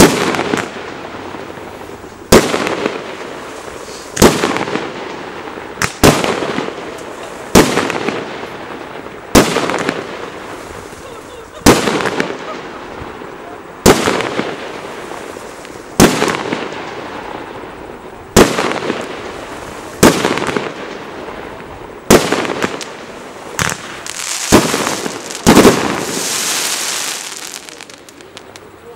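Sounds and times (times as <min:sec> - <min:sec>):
fireworks bangs with crackle: 0:00.0 - 0:28.9
hissing crackle: 0:00.0 - 0:28.9.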